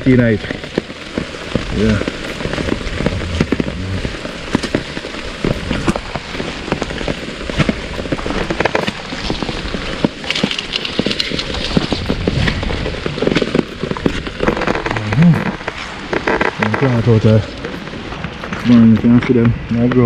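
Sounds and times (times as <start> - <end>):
close raindrop hits: 0.0 - 20.0
steady rain: 0.0 - 20.0.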